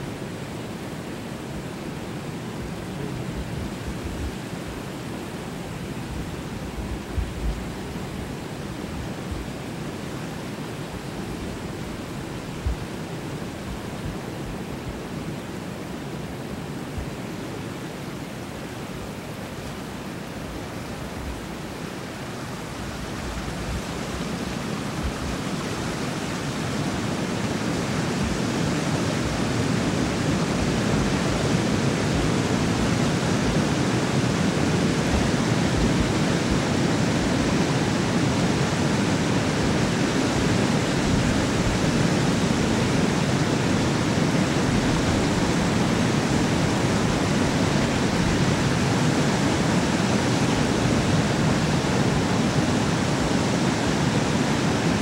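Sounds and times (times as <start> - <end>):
water rushing through spillway: 0.0 - 55.0.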